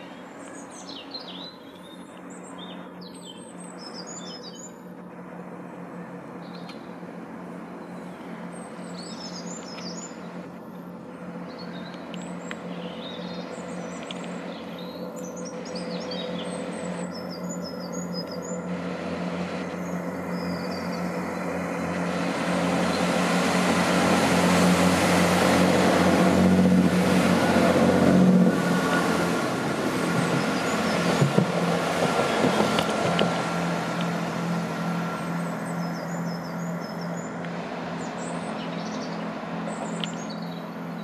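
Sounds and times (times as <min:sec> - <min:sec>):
birds chirping: 0:00.0 - 0:04.9, 0:05.7 - 0:26.6, 0:28.7 - 0:31.5, 0:33.9 - 0:41.0
diesel train engines accelerating: 0:00.0 - 0:41.0.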